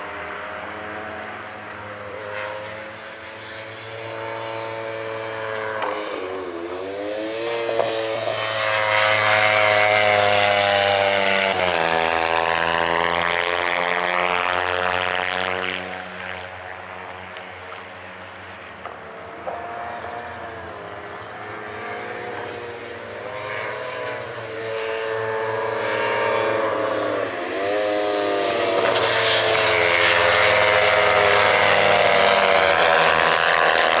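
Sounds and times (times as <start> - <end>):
racing motorcycle passing: 0.0 - 34.0.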